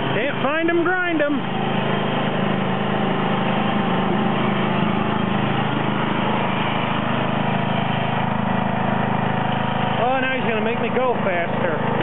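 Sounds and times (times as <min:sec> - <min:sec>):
lawn tractor engine running: 0:00.0 - 0:12.0.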